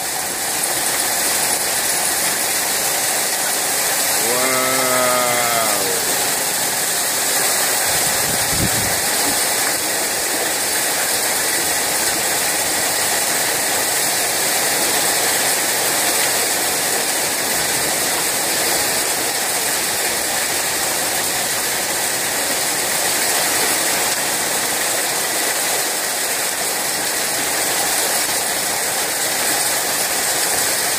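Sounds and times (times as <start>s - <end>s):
heavy rain on metal roof: 0.0s - 30.9s.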